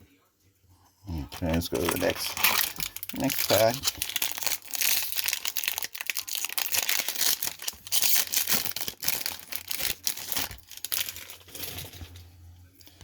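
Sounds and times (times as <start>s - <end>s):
plastic wrapper tearing and crinkling: 1.1s - 12.2s.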